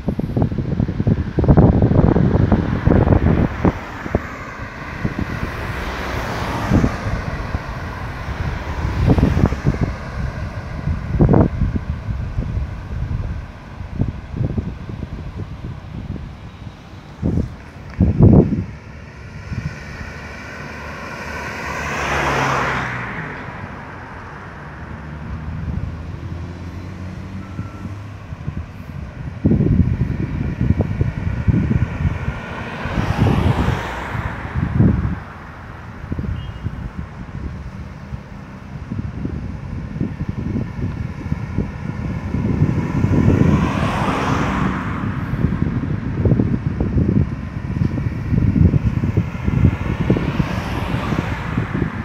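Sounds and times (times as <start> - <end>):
low hum of traffic: 0.0 - 52.0
wind buffeting microphone: 0.0 - 52.0
car passing by: 1.3 - 39.3, 40.4 - 52.0.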